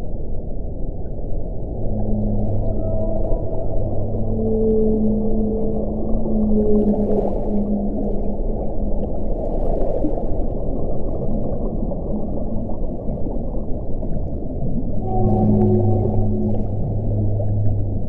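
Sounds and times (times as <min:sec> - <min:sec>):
low howling wind tone: 0:00.0 - 0:18.0.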